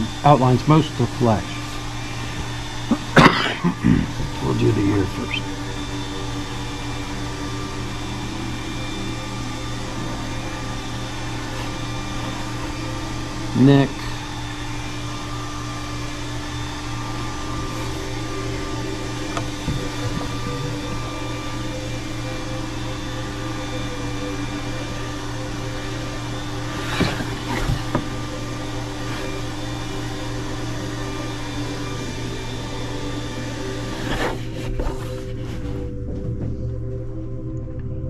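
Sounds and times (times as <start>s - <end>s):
machinery hum: 0.0s - 38.0s.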